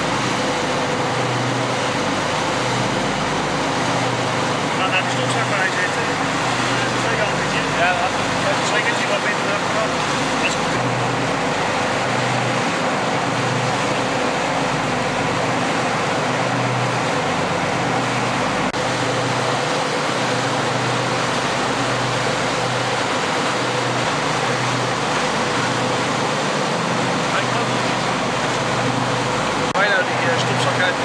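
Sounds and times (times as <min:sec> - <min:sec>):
boat engine pulsing hum: 0:00.0 - 0:31.0
rush of wind and water: 0:00.0 - 0:31.0.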